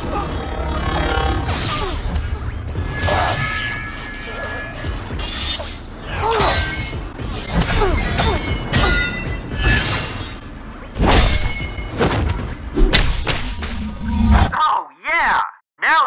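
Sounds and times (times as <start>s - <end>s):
background music: 0.0s - 13.8s
blade clashes: 0.2s - 14.3s.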